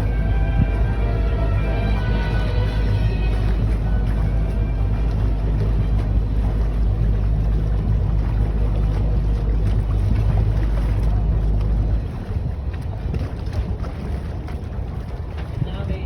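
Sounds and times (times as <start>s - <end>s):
boat engine humming: 0.0s - 16.0s
wind buffeting microphone: 0.0s - 16.0s.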